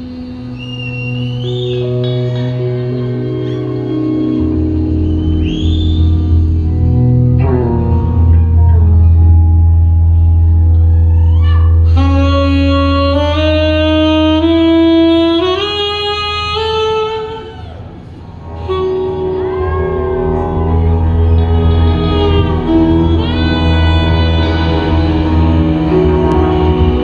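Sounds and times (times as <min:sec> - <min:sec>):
live band playing slow song: 0:00.0 - 0:27.0.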